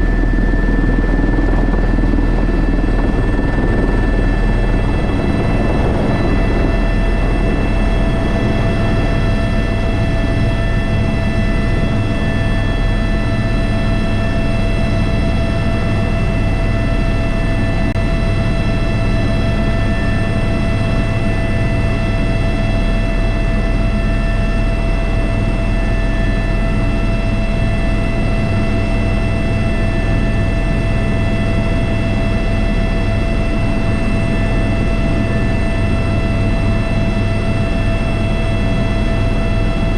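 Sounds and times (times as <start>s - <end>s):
helicopter rotor and turbine drone: 0.0s - 39.9s.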